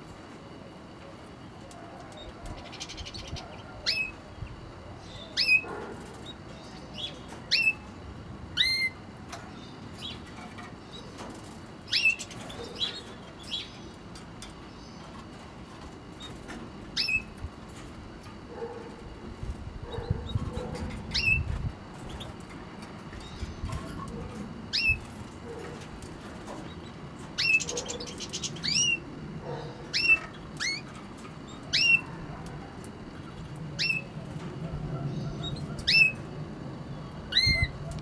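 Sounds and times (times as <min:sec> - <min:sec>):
finches calling: 0:02.2 - 0:11.2, 0:11.8 - 0:14.0, 0:16.1 - 0:17.4, 0:18.4 - 0:22.5, 0:23.1 - 0:25.8, 0:26.5 - 0:38.0.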